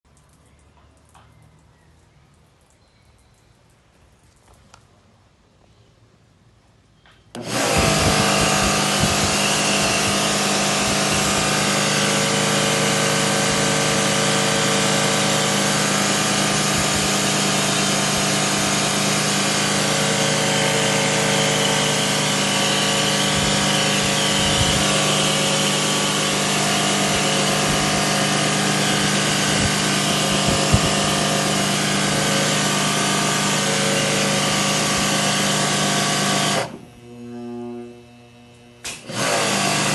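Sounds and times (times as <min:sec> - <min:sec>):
electric motor humming: 0:07.4 - 0:39.9.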